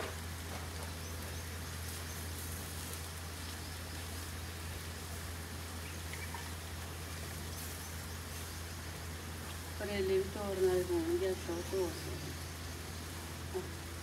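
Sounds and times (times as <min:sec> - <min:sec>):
background hiss: 0:00.0 - 0:14.0
steady low hum: 0:00.0 - 0:14.0.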